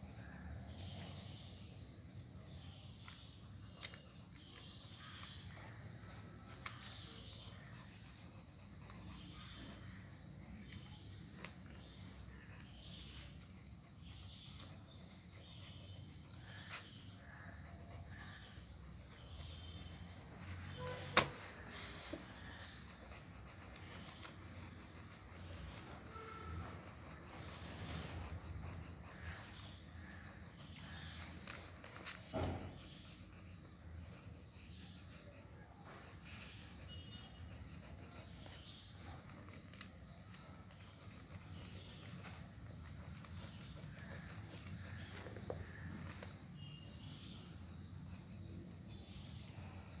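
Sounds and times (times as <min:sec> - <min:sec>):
pencil scratching on paper: 0:00.0 - 0:50.0.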